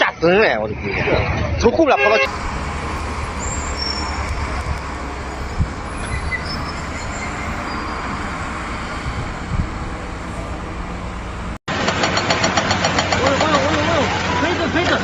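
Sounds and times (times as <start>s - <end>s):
heavy truck engine rumble: 2.2s - 15.0s.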